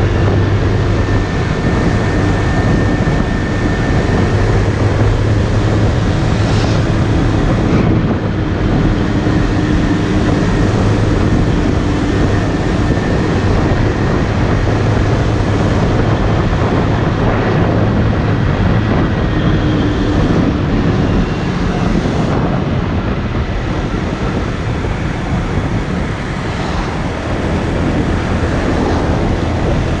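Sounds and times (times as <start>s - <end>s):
motorcycle engine hum: 0.0s - 30.0s
road noise: 0.0s - 30.0s
wind noise: 0.0s - 30.0s.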